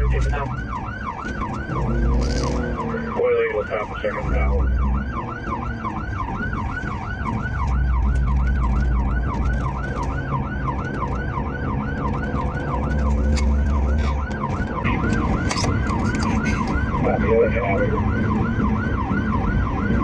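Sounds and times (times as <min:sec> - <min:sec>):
car engine and tyres droning: 0:00.0 - 0:20.0
police siren yelping: 0:00.0 - 0:20.0.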